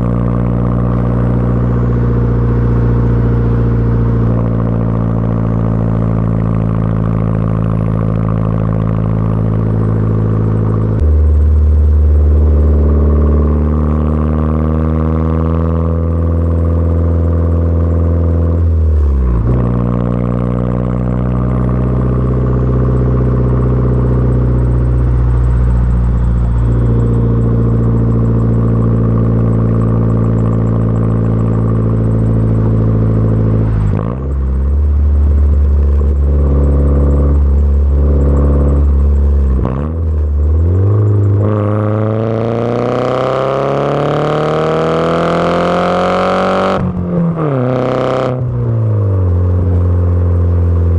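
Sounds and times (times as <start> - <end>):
car engine droning and revving: 0.0 - 50.9.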